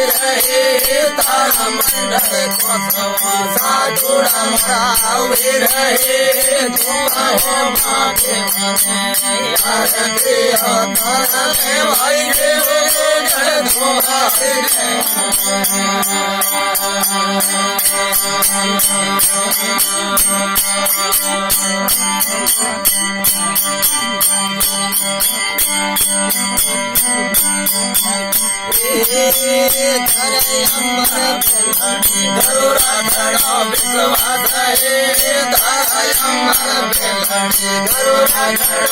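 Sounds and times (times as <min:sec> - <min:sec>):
steady drone: 0:00.0 - 0:25.4, 0:26.2 - 0:38.9
fast rattling percussion: 0:00.0 - 0:38.9
wavering melody: 0:00.0 - 0:38.9.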